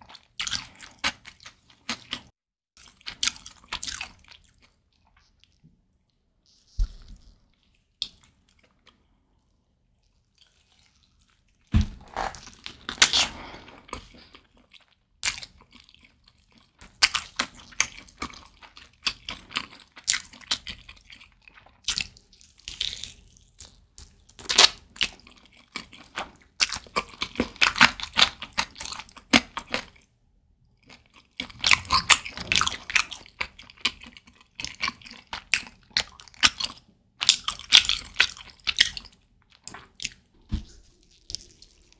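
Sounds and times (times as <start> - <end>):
biting and chewing meat: 0.0 - 5.6, 10.1 - 30.1, 30.8 - 40.3.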